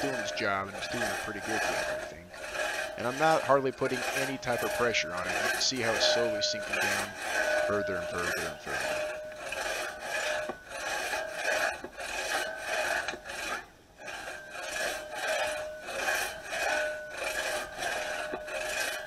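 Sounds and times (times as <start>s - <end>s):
crosscut saw rasping strokes: 0.0s - 19.0s
faint ringing saw blade: 0.0s - 19.0s.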